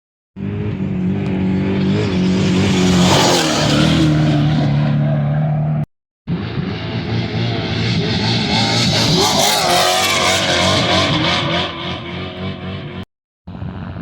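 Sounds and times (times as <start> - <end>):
race vehicle engine passing by: 0.4 - 13.0
another engine: 0.4 - 14.0.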